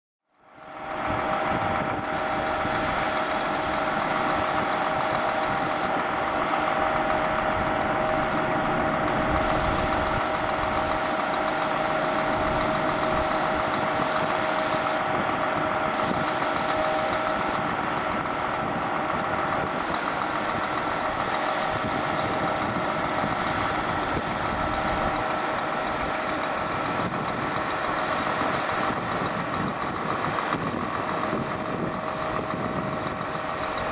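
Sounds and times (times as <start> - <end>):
diesel engine running: 0.3 - 33.9.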